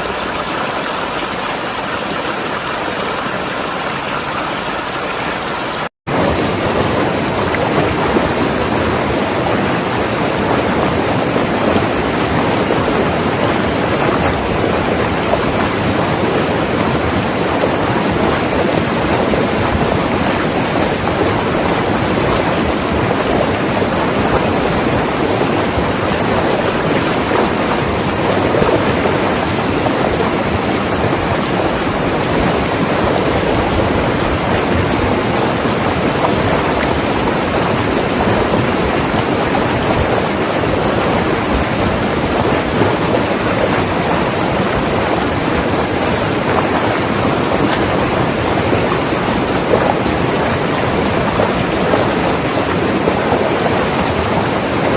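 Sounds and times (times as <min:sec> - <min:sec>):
river flowing over rocks: 0:00.0 - 0:54.9.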